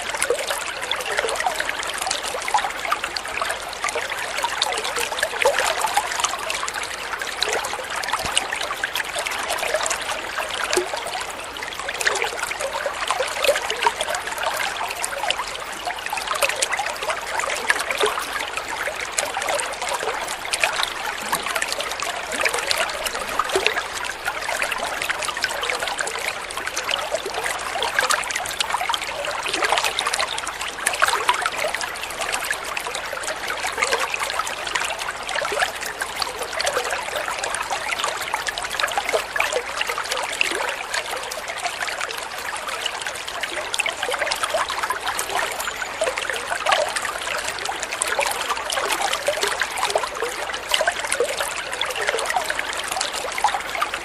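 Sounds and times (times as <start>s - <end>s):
water flowing and trickling: 0.0s - 54.0s.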